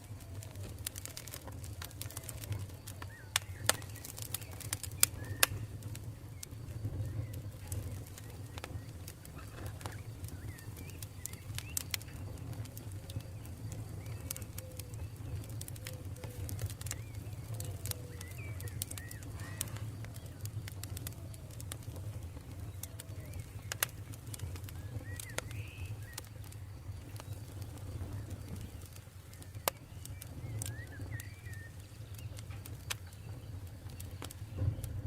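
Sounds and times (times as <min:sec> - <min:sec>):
small birds chirping: 0:00.0 - 0:35.0
wood fire crackling: 0:00.0 - 0:35.0.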